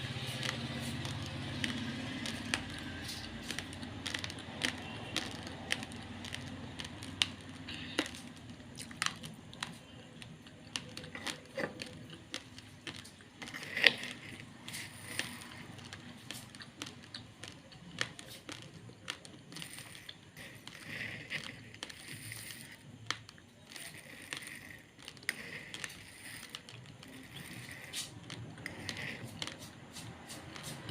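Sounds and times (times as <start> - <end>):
chewing raw rice: 0.0 - 30.9.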